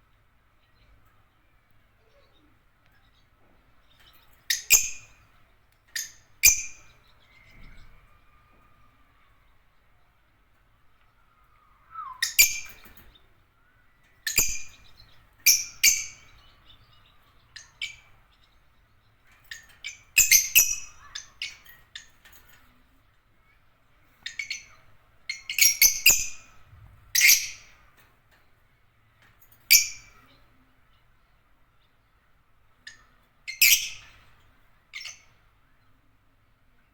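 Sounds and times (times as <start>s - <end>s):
lovebirds chirping and squawking: 0.6s - 28.6s, 29.2s - 36.0s.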